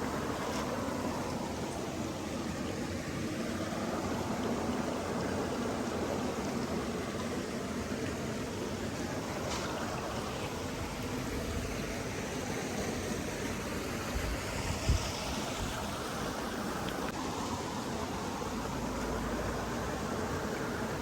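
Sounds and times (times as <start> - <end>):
flowing stream rushing: 0.0 - 21.0.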